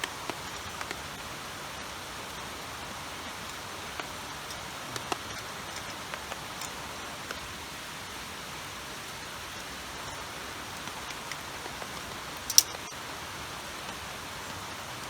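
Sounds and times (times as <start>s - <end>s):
rain and running water: 0.0s - 15.0s.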